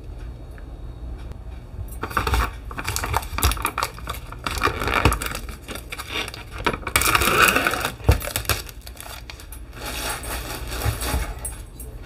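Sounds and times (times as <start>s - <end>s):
crinkly scrape: 2.0s - 11.9s.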